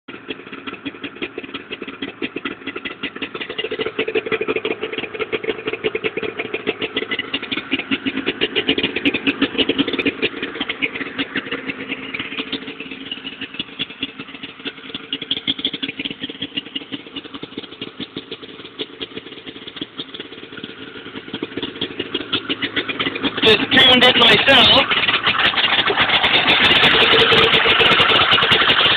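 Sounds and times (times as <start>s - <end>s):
two-stroke engine idling: 0.1s - 28.9s.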